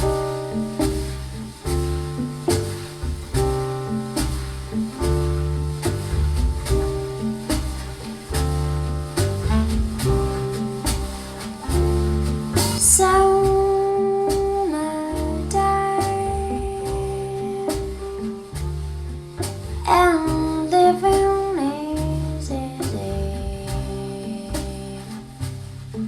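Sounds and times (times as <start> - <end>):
plucked guitar: 0.0 - 26.0
repeating bass notes: 0.0 - 26.0.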